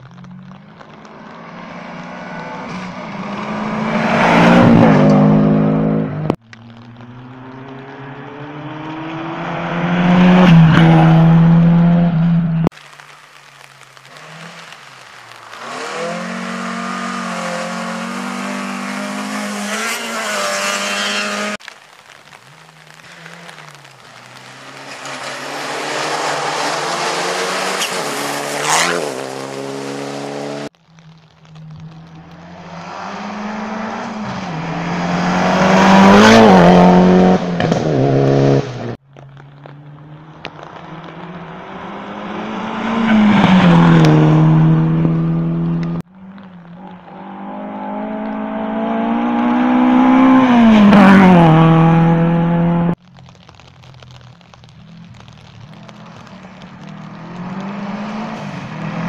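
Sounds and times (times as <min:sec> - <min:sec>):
rally car engines passing: 0:01.1 - 0:12.7, 0:15.5 - 0:21.6, 0:22.8 - 0:30.7, 0:31.5 - 0:39.0, 0:39.6 - 0:53.0, 0:55.9 - 0:59.0.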